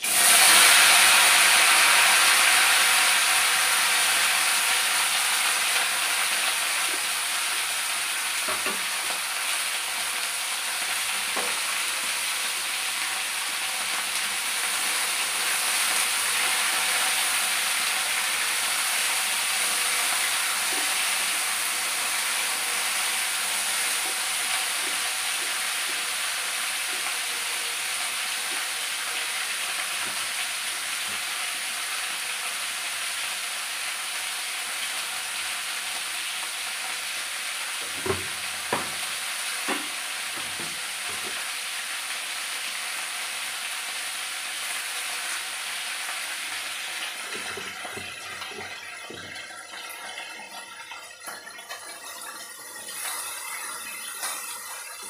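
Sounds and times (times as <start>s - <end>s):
vegetables sizzling in a pan: 0.0s - 55.0s.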